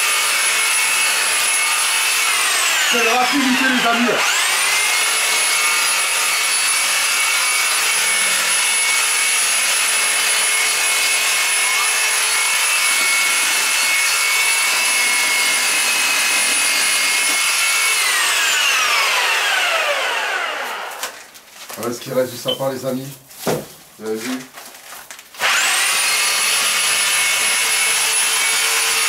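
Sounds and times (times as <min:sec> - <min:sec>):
reciprocating saw cutting wood: 0:00.0 - 0:21.0, 0:25.4 - 0:29.0.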